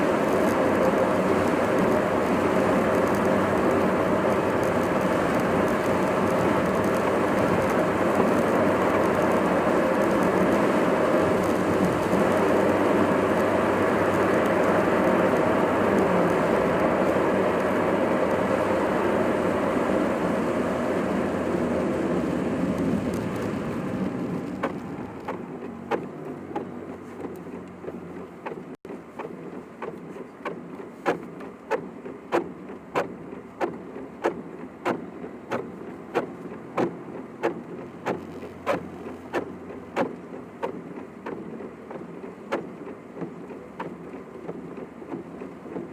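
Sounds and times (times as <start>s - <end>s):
rain: 0.0s - 28.2s, 28.9s - 45.9s
car cabin road noise: 0.0s - 45.9s.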